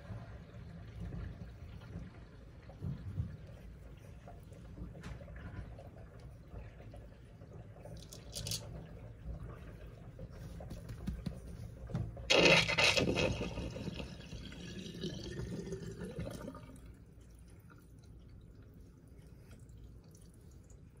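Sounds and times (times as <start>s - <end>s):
water draining and gurgling: 0.0s - 10.6s, 12.0s - 21.0s.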